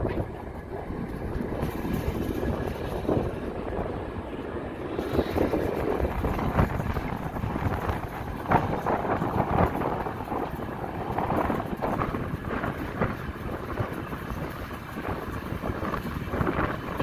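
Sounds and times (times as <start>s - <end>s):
train knocks and clatter: 0.0s - 17.0s
train wheels rumbling on rails: 0.0s - 17.0s
wind buffeting microphone: 0.0s - 17.0s.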